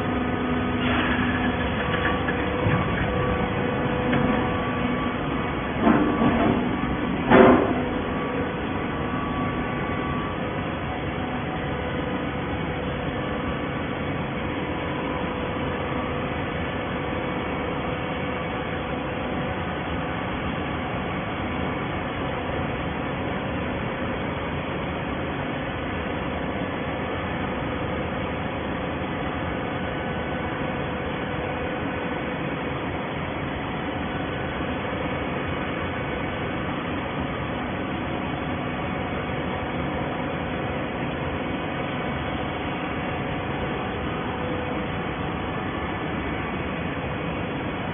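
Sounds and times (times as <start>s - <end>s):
machine hum with held tone: 0.0s - 47.9s.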